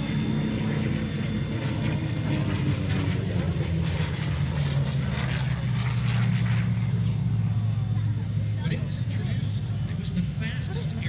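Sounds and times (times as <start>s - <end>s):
propeller airplane engine droning: 0.0s - 11.0s.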